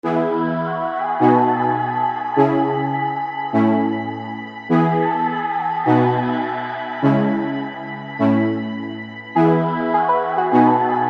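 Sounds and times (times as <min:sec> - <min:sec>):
soft synthesizer chords: 0:00.0 - 0:11.0.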